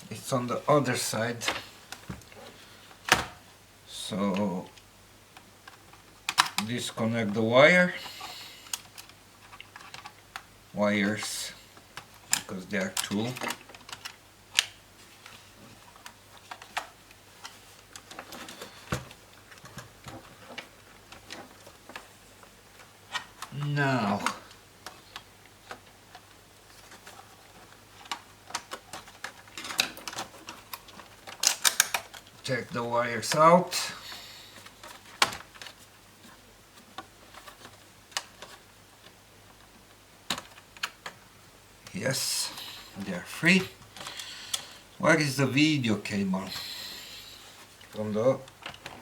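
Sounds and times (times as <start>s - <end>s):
plastic parts and cables clicking: 4.3s - 7.4s, 8.0s - 10.5s, 11.7s - 44.8s, 47.3s - 49.0s.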